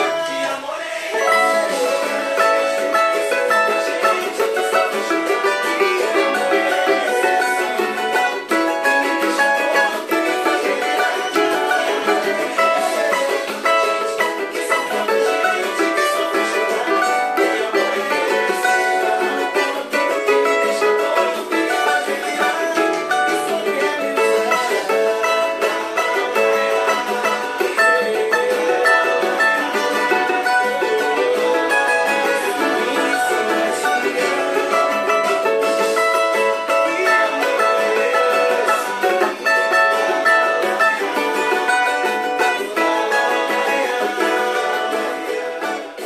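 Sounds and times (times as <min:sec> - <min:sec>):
plucked small guitar: 0:00.0 - 0:46.0.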